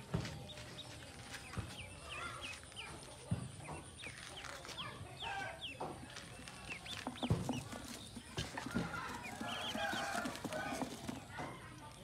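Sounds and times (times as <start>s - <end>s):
ducklings peeping: 0.3s - 12.0s.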